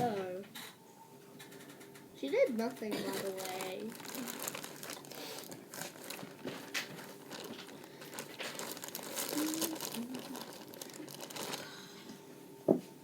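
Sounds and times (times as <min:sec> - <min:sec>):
materials crinkling and rustling: 0:01.4 - 0:12.3.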